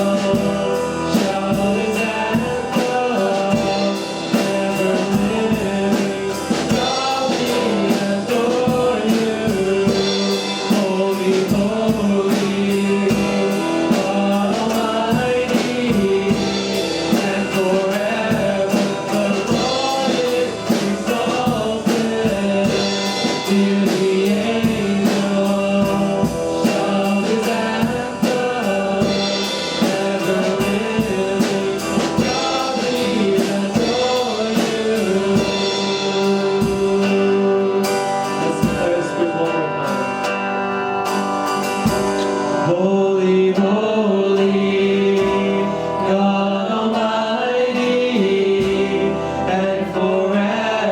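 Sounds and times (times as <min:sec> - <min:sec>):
drums keeping a steady beat: 0:00.0 - 0:50.9
voices singing: 0:00.0 - 0:50.9
worship band playing: 0:00.0 - 0:50.9.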